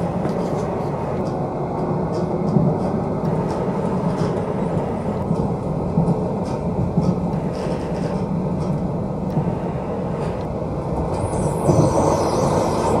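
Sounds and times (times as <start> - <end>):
train rumbling on track: 0.0 - 13.0
train wheels clicking: 0.0 - 13.0.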